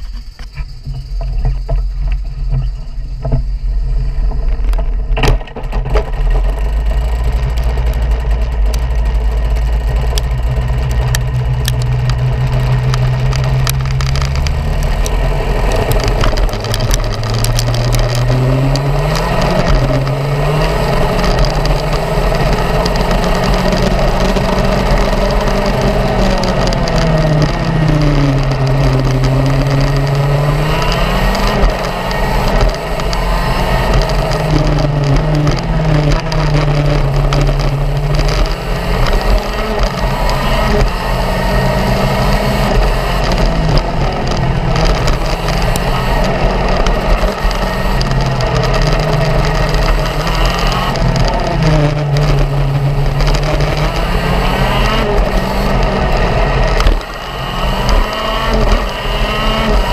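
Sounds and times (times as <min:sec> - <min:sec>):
racing kart engine revving: 0:03.2 - 0:59.9.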